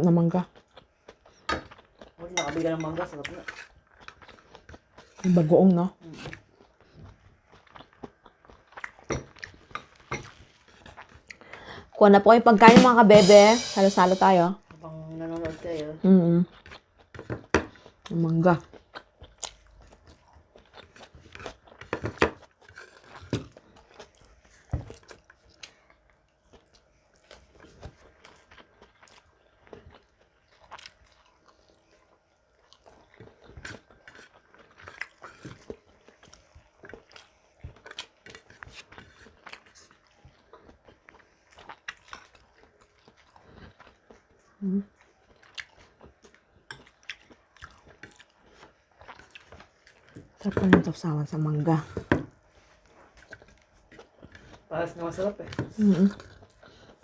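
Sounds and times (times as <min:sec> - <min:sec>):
chewing and crunching food: 0:00.0 - 0:12.4, 0:14.6 - 0:57.0.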